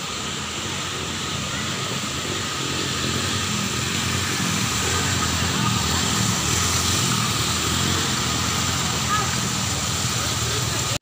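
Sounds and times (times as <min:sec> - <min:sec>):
rush of floodwater: 0:00.0 - 0:11.0
small motorcycle engines: 0:00.0 - 0:11.0.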